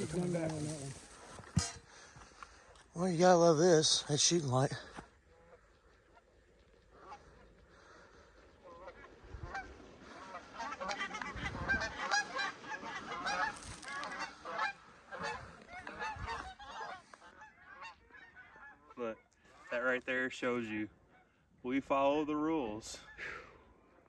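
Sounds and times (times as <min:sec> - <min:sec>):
geese honking and clucking: 0:00.0 - 0:02.8, 0:03.8 - 0:19.8, 0:20.7 - 0:21.7, 0:22.6 - 0:24.0.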